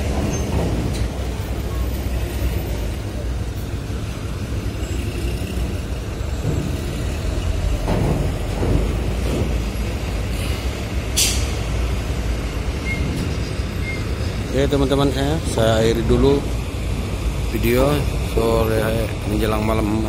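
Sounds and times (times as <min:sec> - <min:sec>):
diesel truck engines rumbling: 0:00.0 - 0:20.0.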